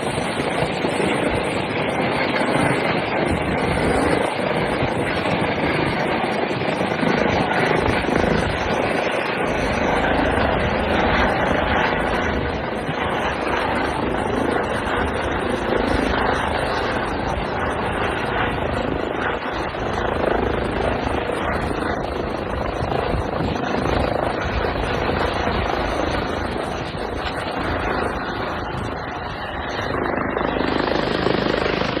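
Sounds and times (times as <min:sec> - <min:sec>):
helicopter rotor and turbine: 0:00.0 - 0:32.0.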